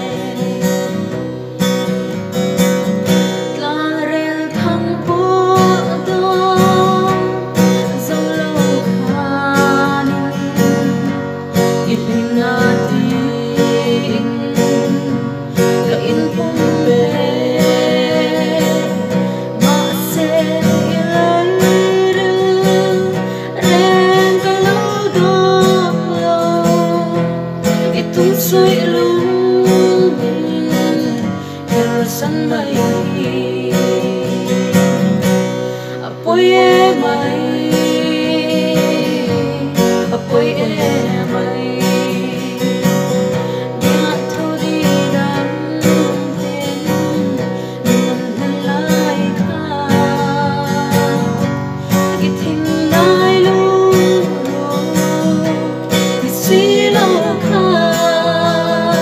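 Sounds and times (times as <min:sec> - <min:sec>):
woman and man singing: 0:00.0 - 0:01.1, 0:03.6 - 0:35.0, 0:35.9 - 0:59.0
acoustic guitar strumming: 0:00.0 - 0:59.0.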